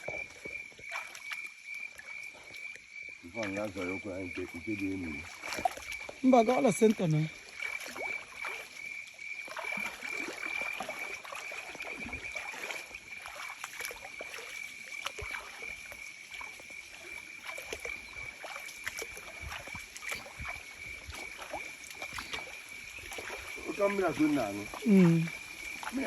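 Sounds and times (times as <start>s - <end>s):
river water splashing: 0.0s - 26.0s
water trickling: 0.0s - 26.0s.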